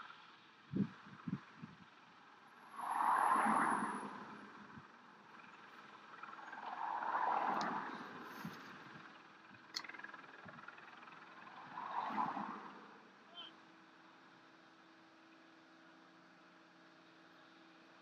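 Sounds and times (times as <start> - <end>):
aircraft engines and rotors running: 0.0 - 18.0.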